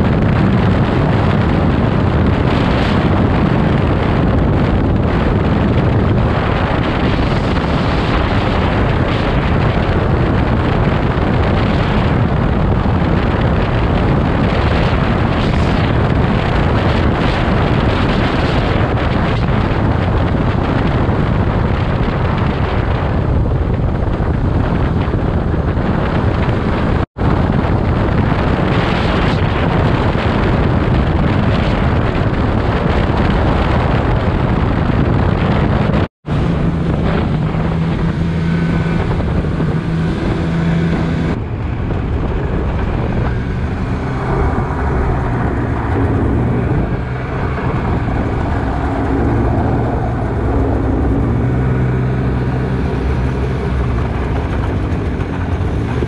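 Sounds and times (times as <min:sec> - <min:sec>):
snowmobile engine and track: 0:00.0 - 0:56.0
wind buffeting microphone: 0:00.0 - 0:56.0.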